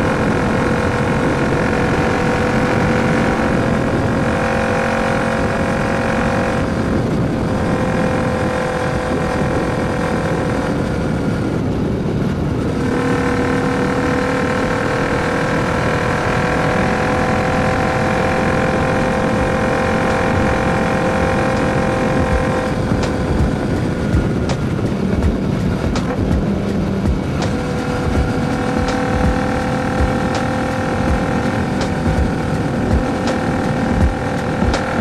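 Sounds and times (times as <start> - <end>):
motorcycle engine cruising: 0.0 - 35.0
wind noise on microphone: 0.0 - 35.0.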